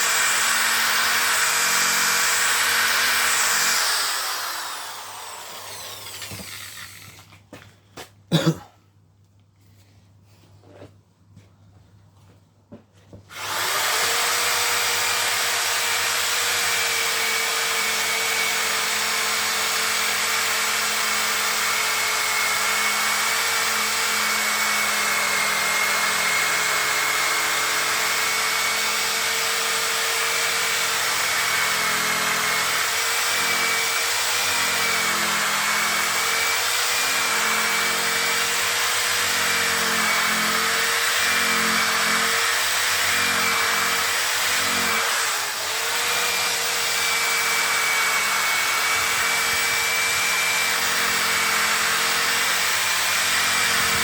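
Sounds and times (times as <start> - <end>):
electric drill motor whine: 0.0 - 7.4, 13.3 - 54.0.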